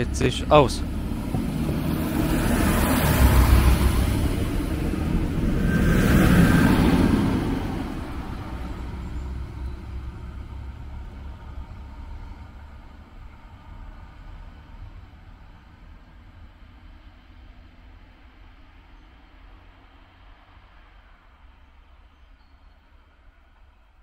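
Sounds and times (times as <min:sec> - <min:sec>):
diesel railcar engine: 0:00.0 - 0:24.0
wheels rumbling on rails: 0:00.0 - 0:24.0.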